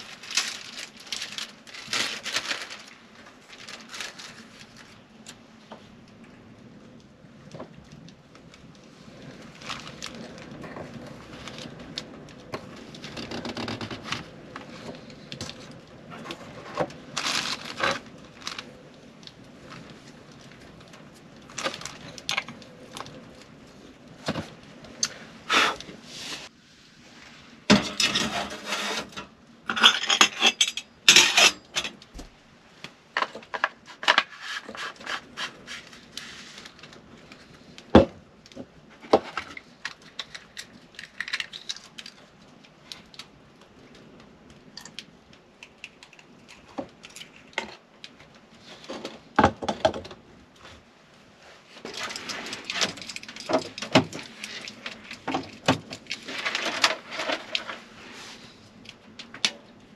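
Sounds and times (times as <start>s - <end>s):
rustling and scraping: 0.0s - 44.2s, 46.2s - 59.9s.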